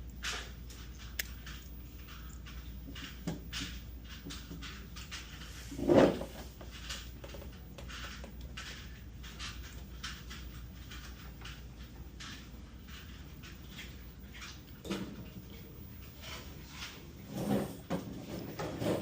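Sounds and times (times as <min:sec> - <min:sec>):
clicks and rustles of wires: 0:00.0 - 0:19.0.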